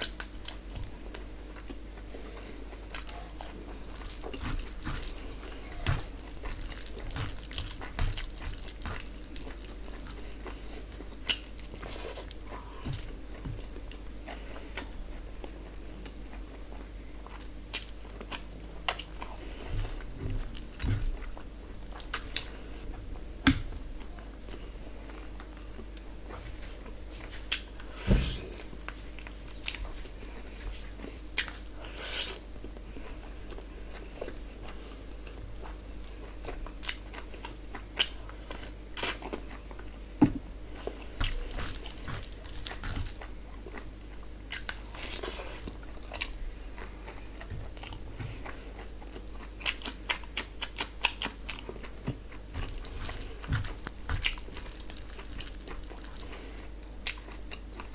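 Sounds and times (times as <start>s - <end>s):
person chewing and biting: 0.0s - 22.9s, 24.4s - 57.9s.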